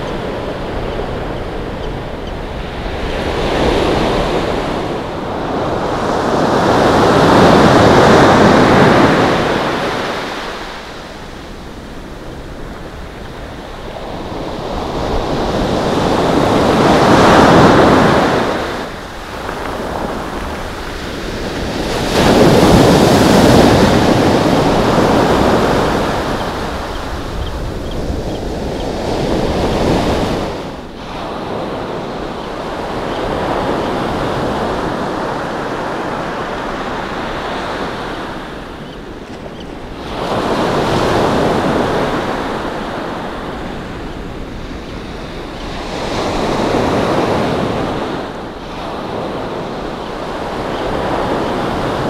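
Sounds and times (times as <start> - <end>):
wind buffeting microphone: 0.0 - 52.0
surf washing up pebbly beach: 2.6 - 39.2, 39.8 - 52.0.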